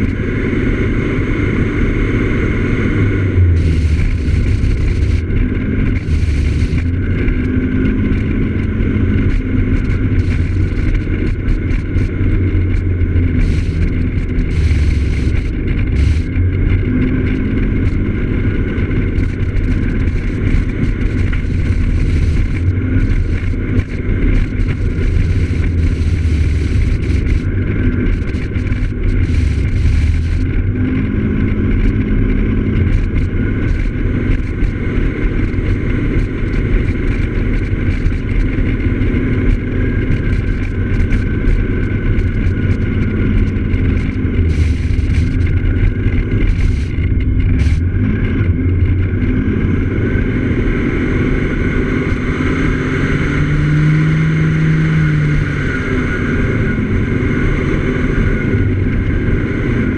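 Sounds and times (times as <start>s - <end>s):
low wind rumble: 0.0s - 59.9s
scooter engine drone: 0.0s - 59.9s.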